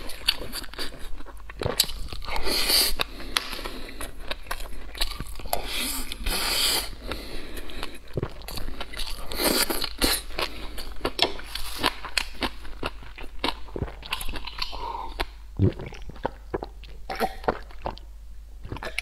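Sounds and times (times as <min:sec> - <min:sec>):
wet chewing and mouth noises: 0:00.0 - 0:19.0.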